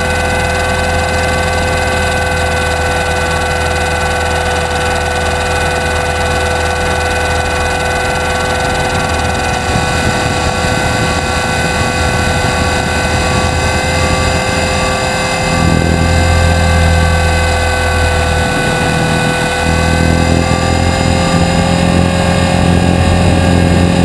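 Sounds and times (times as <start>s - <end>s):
airflow noise: 0.0s - 24.0s
helicopter drivetrain whine: 0.0s - 24.0s
rotor hum: 0.0s - 24.0s.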